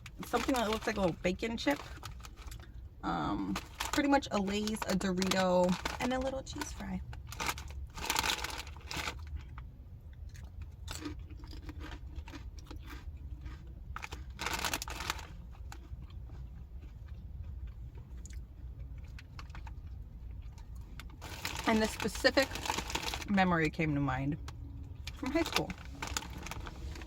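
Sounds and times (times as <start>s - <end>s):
chips being chewed: 3.6s - 23.3s, 24.4s - 27.0s.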